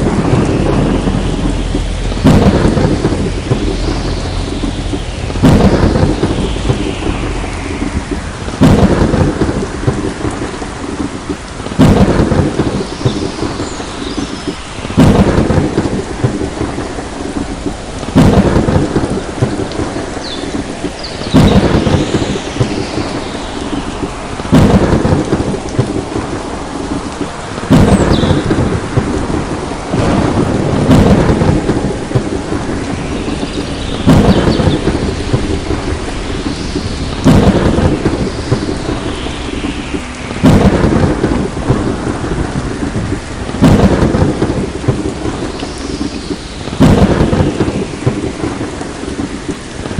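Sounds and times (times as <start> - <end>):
heavy rain: 0.0 - 49.9
thunderclap with rolling rumble: 0.0 - 49.9.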